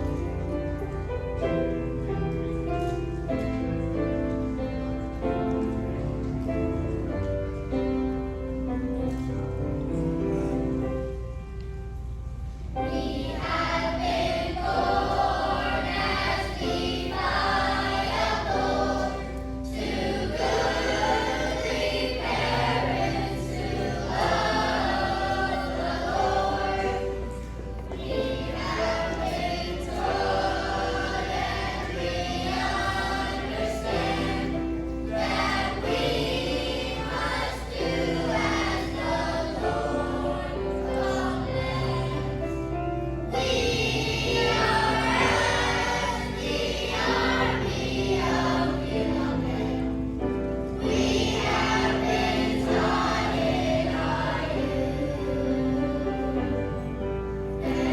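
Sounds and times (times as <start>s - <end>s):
children's choir singing: 0.0s - 11.6s, 12.7s - 57.9s.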